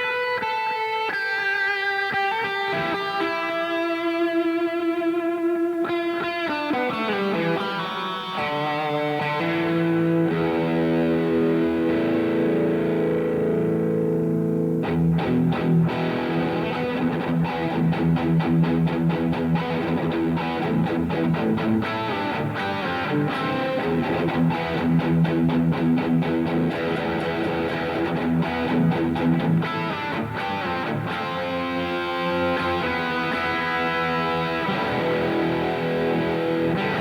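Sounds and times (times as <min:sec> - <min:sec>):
distorted electric guitar: 0:00.0 - 0:37.0.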